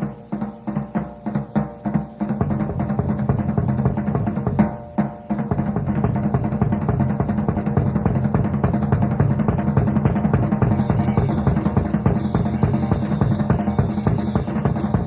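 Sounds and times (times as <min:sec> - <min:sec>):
rock drum kit solo: 0:00.0 - 0:15.0.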